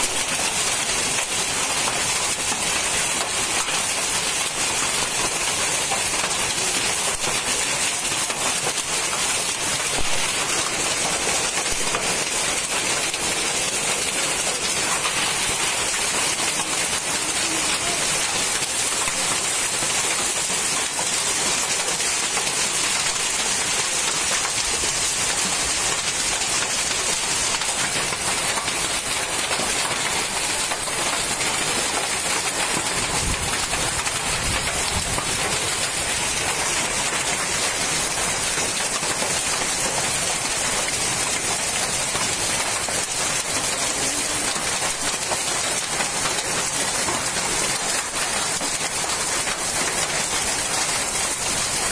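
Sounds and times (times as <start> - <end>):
heavy rain and hail falling: 0.0 - 51.9.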